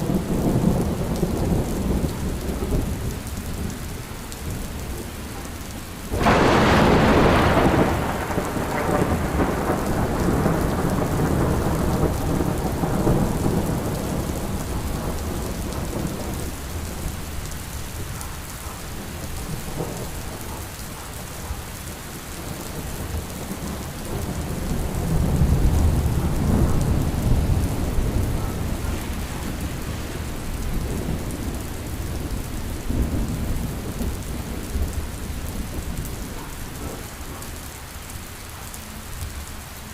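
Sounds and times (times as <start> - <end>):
thunder rumbling: 0.0 - 38.1
steady rain: 0.0 - 39.9.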